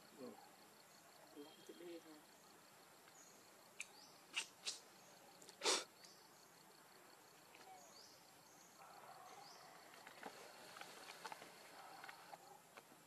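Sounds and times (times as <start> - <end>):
insects trilling: 0.0 - 12.6
insect chirps: 0.0 - 13.0.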